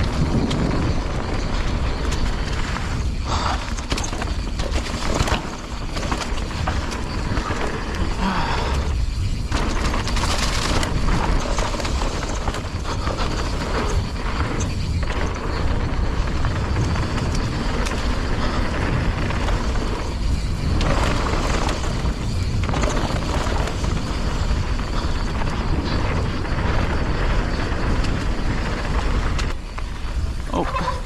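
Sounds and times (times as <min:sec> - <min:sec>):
bike clicks and rattles: 0:00.0 - 0:31.0
tyre noise: 0:00.0 - 0:31.0
wind buffeting microphone: 0:00.0 - 0:31.0.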